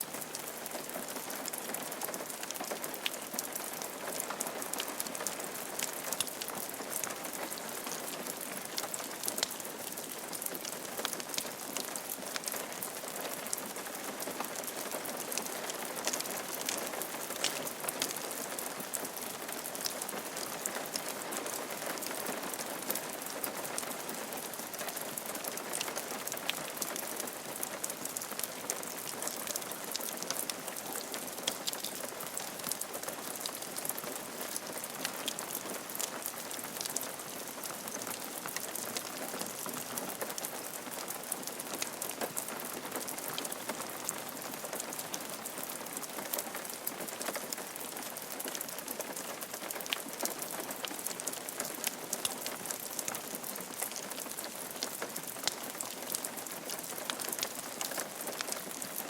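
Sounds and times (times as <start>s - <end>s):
rain falling on a roof: 0.0s - 59.0s.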